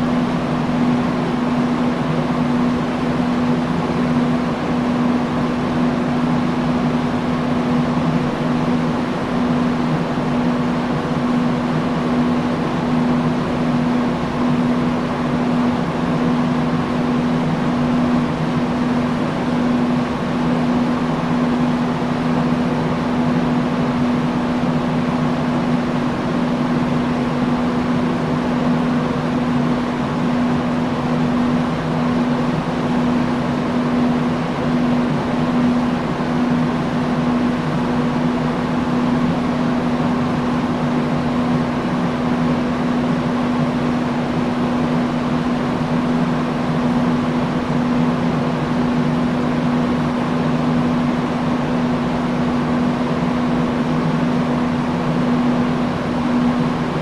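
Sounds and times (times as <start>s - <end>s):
fan motor hum: 0.0s - 57.0s.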